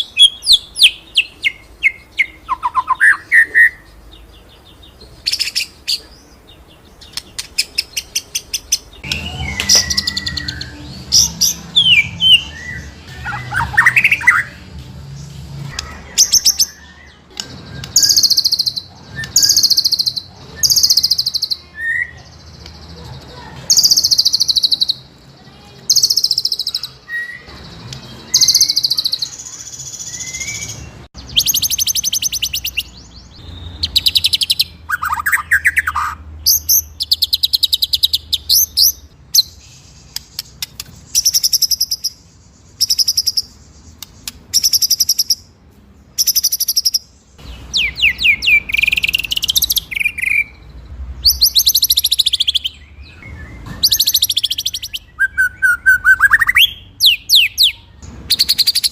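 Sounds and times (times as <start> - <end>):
songbird singing trills: 0.0 - 14.6, 15.7 - 58.9.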